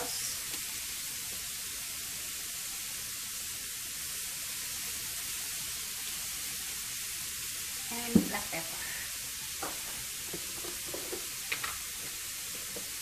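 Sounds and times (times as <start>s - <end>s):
shrimp sizzling on a griddle: 0.0s - 13.0s.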